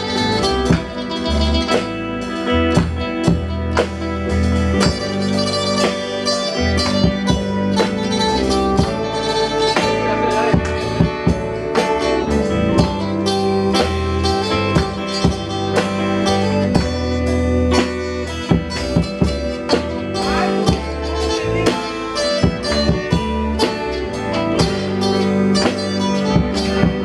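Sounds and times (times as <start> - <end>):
deep bass line: 0.0 - 27.0
plucked string melody: 0.0 - 27.0
steady drum beat: 0.0 - 27.0.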